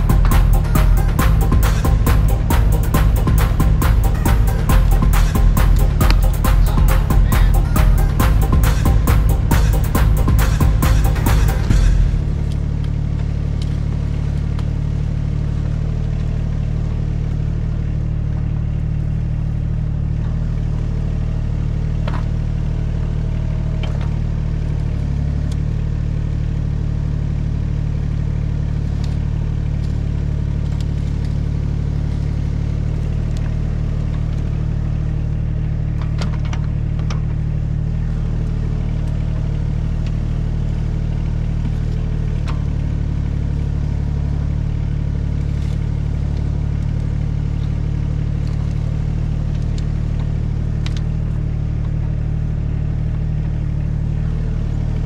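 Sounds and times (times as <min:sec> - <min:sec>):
excavator engine under load: 0:00.0 - 0:55.0.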